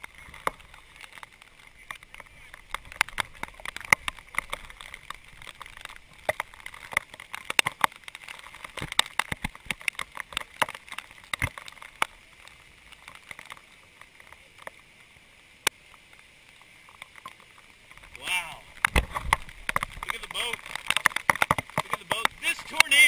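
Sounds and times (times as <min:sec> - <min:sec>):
rain tapping on camera housing: 0:00.0 - 0:23.0.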